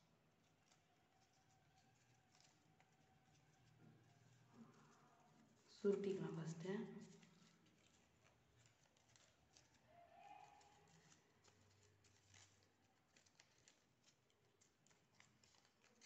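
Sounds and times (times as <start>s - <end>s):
faint paper crinkling: 0.0s - 16.0s.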